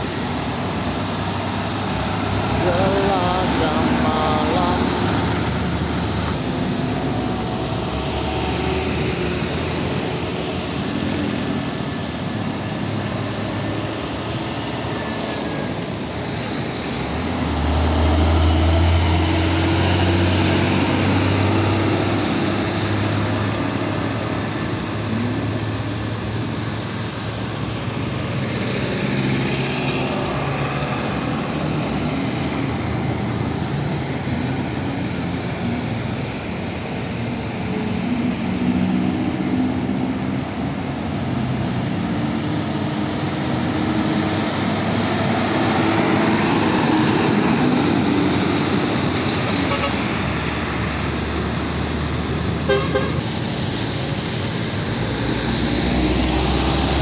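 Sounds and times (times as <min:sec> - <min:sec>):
diesel trucks driving past: 0:00.0 - 0:57.0
tyres hissing on wet road: 0:00.0 - 0:57.0.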